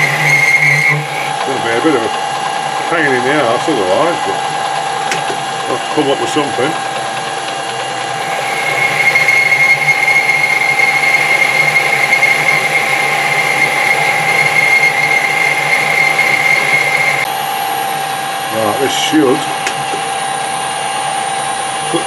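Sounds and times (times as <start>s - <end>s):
boring tool cutting whine: 0.0s - 22.0s
metal lathe humming: 0.0s - 22.0s.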